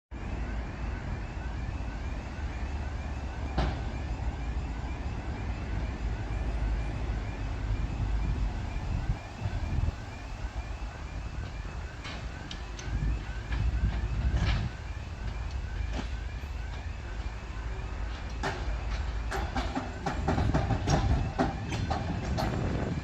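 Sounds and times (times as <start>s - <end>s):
diesel locomotive engine rumbling: 0.1s - 23.0s.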